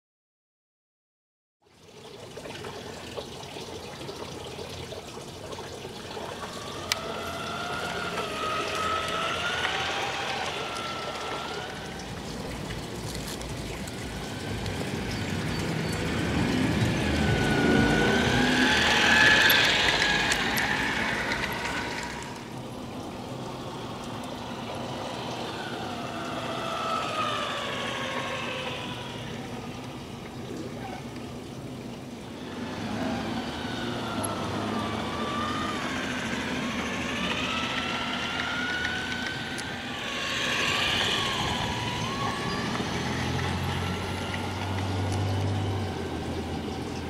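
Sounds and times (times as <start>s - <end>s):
wheels rumbling on rails: 2.4s - 47.0s
model train motor whine: 5.8s - 31.2s, 32.2s - 47.0s.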